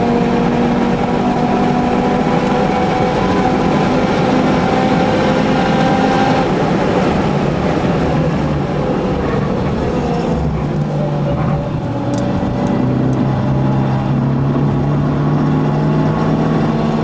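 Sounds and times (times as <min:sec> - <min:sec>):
car engine revving high: 0:00.0 - 0:17.0
wind and road noise: 0:00.0 - 0:17.0.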